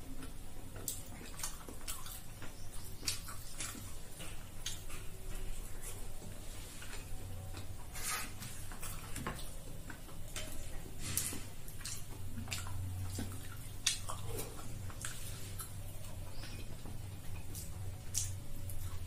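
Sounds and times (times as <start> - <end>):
chewing and lip smacks: 0.0 - 19.0
low steady hum: 0.0 - 19.0.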